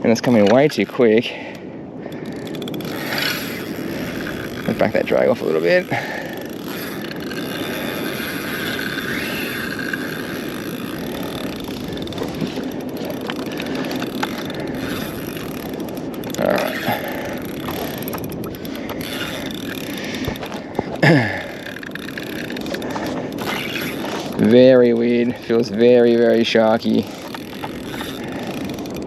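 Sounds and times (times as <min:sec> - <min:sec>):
water noise: 0:00.0 - 0:29.0
wind: 0:00.0 - 0:29.0
fishing reel whirring: 0:00.2 - 0:29.0.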